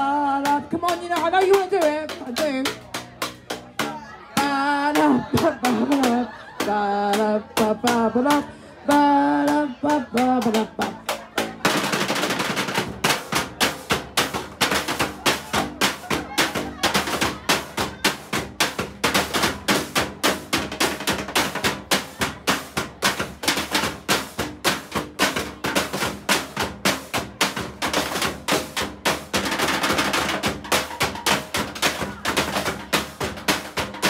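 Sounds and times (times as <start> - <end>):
sticks drumming on plastic barrels: 0.3 - 34.0.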